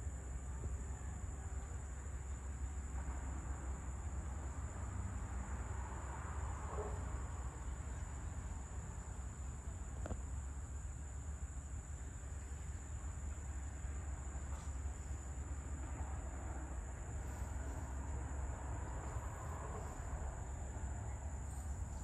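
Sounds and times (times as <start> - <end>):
insects chirring: 0.0 - 22.0
low steady rumble: 0.0 - 22.0.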